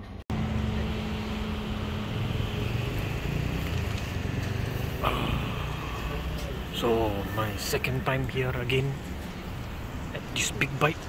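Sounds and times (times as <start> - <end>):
street background rumble: 0.0 - 11.0.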